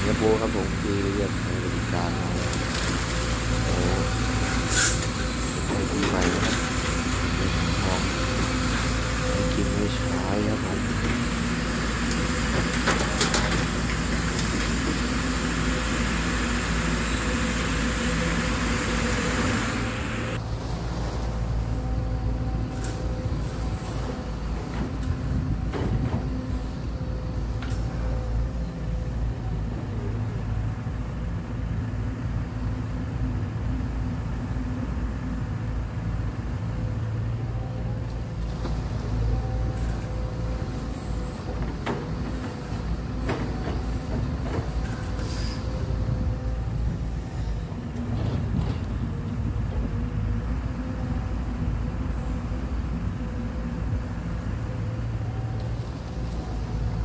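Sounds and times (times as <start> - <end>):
excavator diesel engine: 0.0 - 57.0
truck engine: 0.0 - 57.0.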